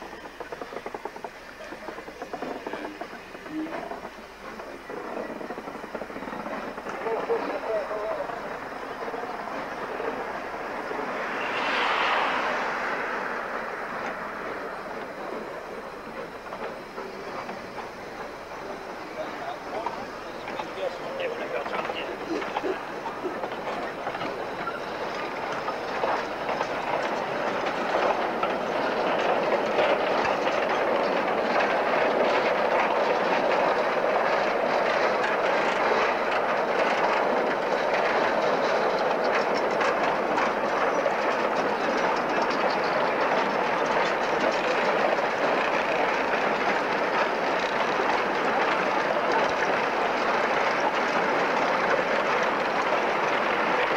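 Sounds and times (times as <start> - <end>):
train wheels clattering over rail joints: 0.0 - 53.9.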